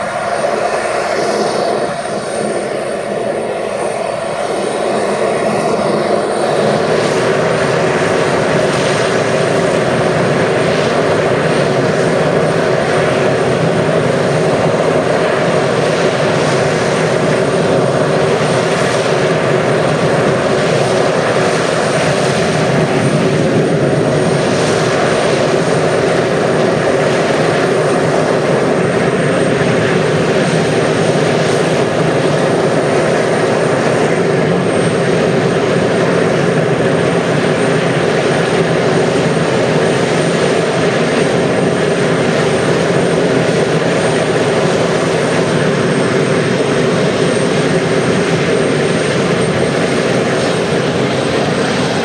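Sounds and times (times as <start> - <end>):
turboprop engines running: 0.0 - 52.0.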